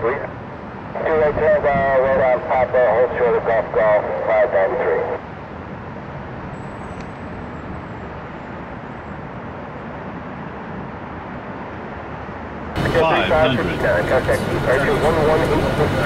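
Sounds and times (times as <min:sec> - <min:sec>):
distant jet airliner roar: 0:00.0 - 0:16.0.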